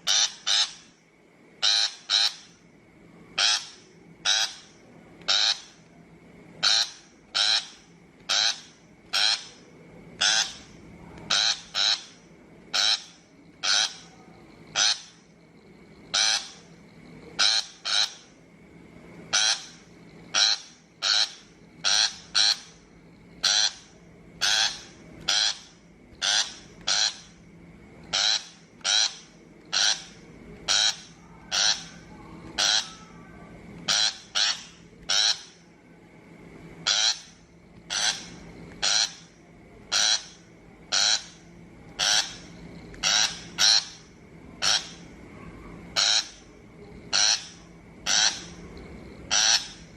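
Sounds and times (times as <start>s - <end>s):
shrike chattering calls: 0.0s - 1.0s, 1.6s - 2.6s, 3.4s - 5.8s, 6.6s - 9.6s, 10.2s - 15.3s, 16.0s - 16.8s, 17.4s - 18.3s, 19.3s - 22.8s, 23.4s - 27.4s, 28.0s - 35.7s, 36.8s - 45.2s, 45.9s - 49.9s.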